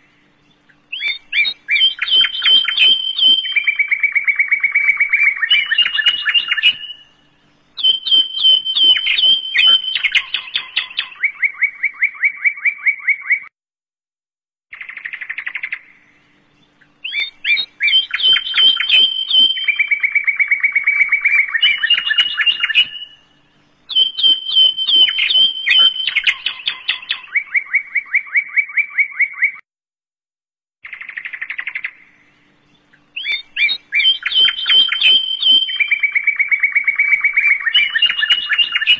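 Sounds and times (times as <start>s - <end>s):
birds chirping and trilling: 0.0s - 13.5s, 14.7s - 29.6s, 30.8s - 38.9s.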